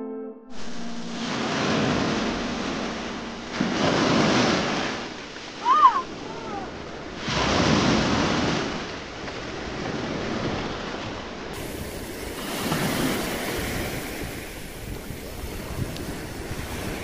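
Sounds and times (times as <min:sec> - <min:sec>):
small waves washing on shore: 0:00.6 - 0:17.0.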